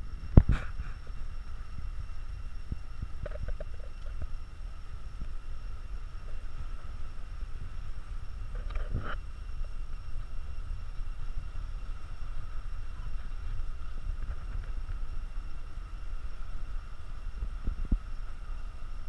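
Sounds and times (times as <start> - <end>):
faint high hum: 0.0 - 19.0
wind rumbling on microphone: 0.0 - 19.0.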